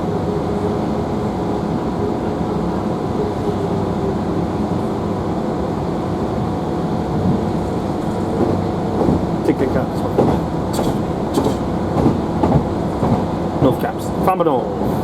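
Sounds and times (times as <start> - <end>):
train engine drone and rumble: 0.0 - 15.0.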